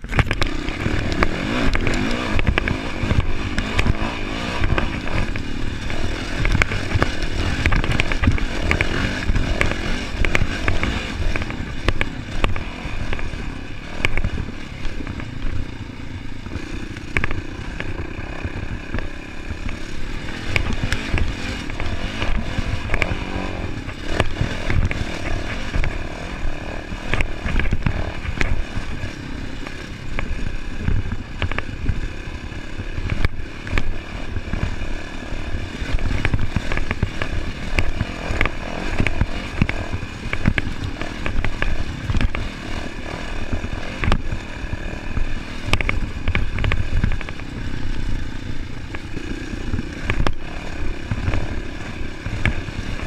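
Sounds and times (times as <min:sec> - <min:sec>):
bike clattering over bumps: 0:00.0 - 0:53.0
dirt bike engine rumbling: 0:00.0 - 0:53.0.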